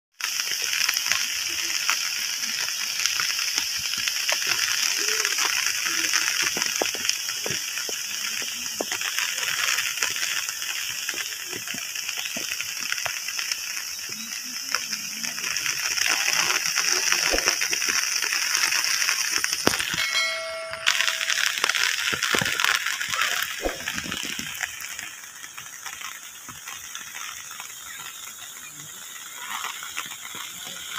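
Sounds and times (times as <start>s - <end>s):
light rain falling: 0.2s - 30.9s.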